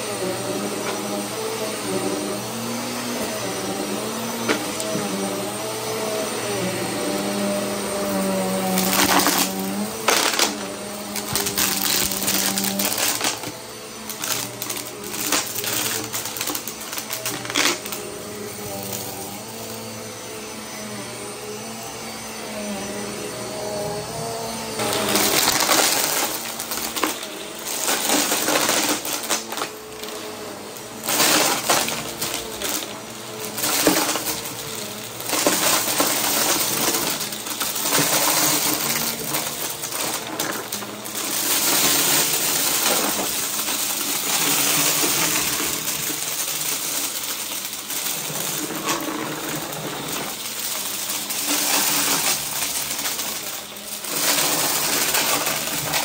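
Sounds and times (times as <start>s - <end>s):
debris rattling in vacuum: 0.0s - 56.0s
vacuum cleaner motor humming: 0.0s - 56.0s.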